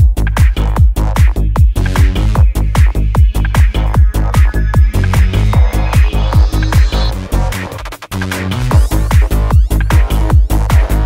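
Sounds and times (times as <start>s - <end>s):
kick drum: 0.0s - 6.9s, 8.7s - 11.0s
trance music: 0.0s - 11.0s.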